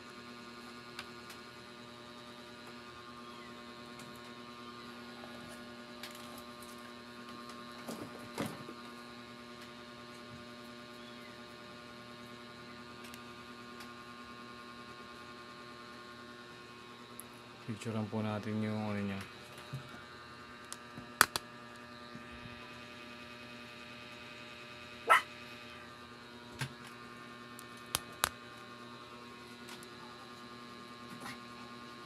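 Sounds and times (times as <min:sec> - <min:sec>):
electrical mains hum with whine: 0:00.0 - 0:32.0.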